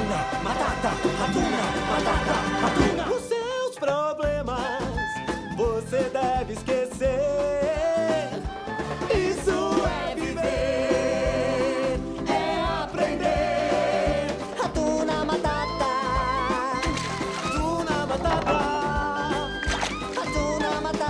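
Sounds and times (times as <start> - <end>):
lively band playing: 0.0 - 21.0.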